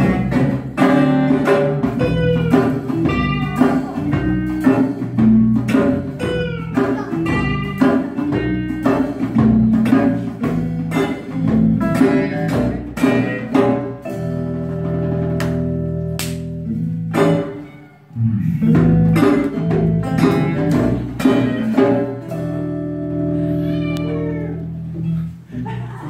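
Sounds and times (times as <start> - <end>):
hand-drum beat: 0.0 - 17.6, 18.5 - 22.6
acoustic guitars: 0.0 - 26.0
electric bass: 0.0 - 26.0.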